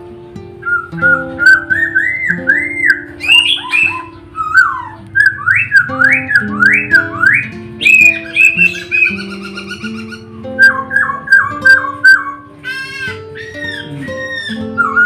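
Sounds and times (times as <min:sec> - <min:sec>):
soft background music: 0:00.0 - 0:15.0
songbird singing: 0:00.0 - 0:15.0.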